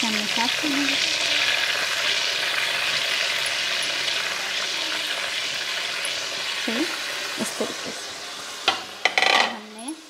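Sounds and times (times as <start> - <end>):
rice sizzling in hot oil: 0.0 - 10.0.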